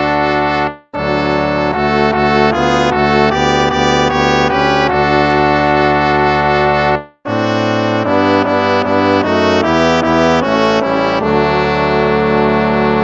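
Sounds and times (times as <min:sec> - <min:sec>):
instrumental hymn chords: 0:00.0 - 0:13.0.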